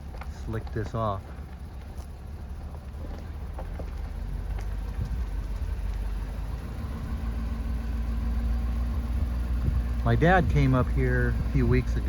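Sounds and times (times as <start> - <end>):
car engine hum: 0.0 - 12.0
road rumble inside car: 0.0 - 12.0.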